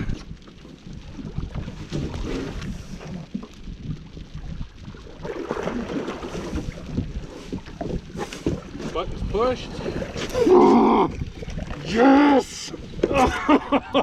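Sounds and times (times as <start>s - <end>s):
water sounds: 0.0s - 14.0s
wind buffeting microphone: 0.0s - 14.0s.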